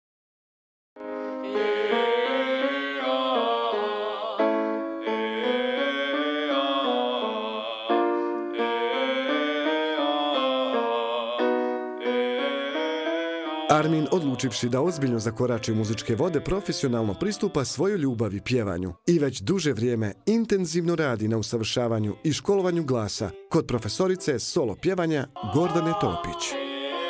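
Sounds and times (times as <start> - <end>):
piano: 1.0 - 27.0
man singing vocal exercises: 5.1 - 27.0.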